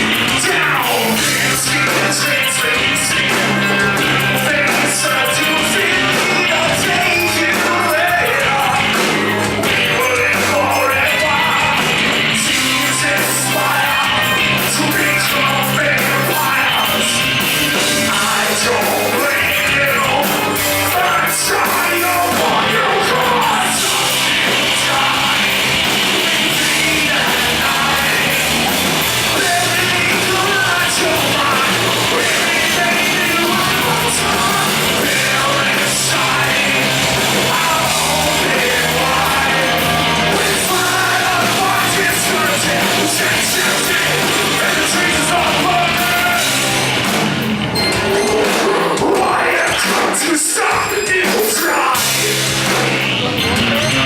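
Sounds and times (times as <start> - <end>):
singer shouting vocals: 0.0 - 46.7, 48.7 - 52.6
live rock band playing: 0.0 - 54.0.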